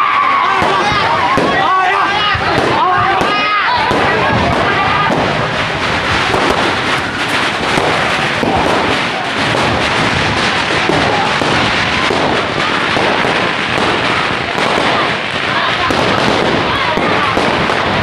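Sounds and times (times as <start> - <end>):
firecrackers crackling: 0.0 - 18.0
people shouting: 0.0 - 18.0.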